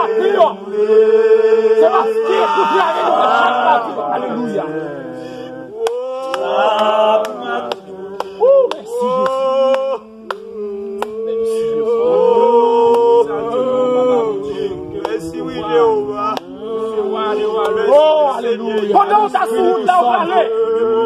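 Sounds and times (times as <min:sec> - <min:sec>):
group singing unaccompanied: 0:00.0 - 0:21.0.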